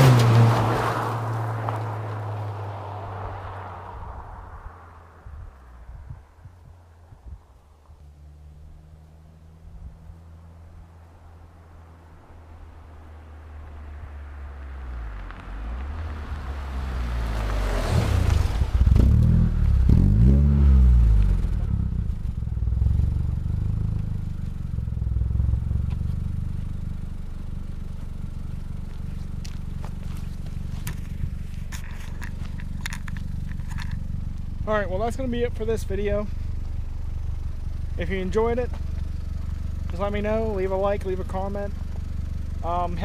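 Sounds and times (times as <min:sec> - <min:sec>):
car engine passing by: 0:00.0 - 0:43.0.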